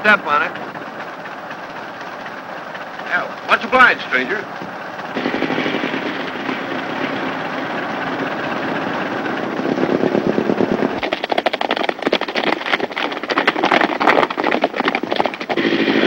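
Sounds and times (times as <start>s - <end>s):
horses galloping on dirt road: 0.0s - 16.0s
old car engine rattling: 0.0s - 16.0s.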